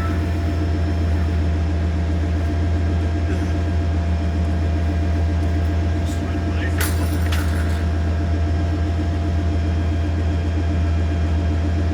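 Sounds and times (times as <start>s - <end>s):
pickup truck engine idling: 0.0s - 11.9s.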